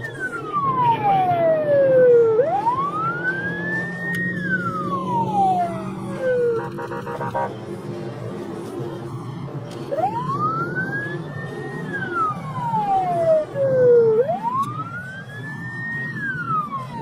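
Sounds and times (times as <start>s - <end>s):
police siren wailing: 0.0s - 7.6s, 9.1s - 17.0s
car engine and tyres rumbling: 0.0s - 17.0s.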